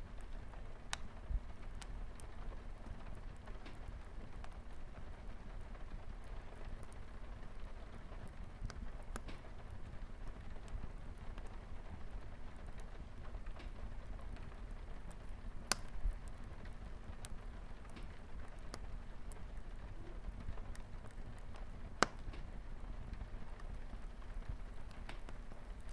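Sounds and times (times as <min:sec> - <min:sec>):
light rain on a window: 0:00.0 - 0:25.9
wood fire crackling: 0:00.0 - 0:25.9.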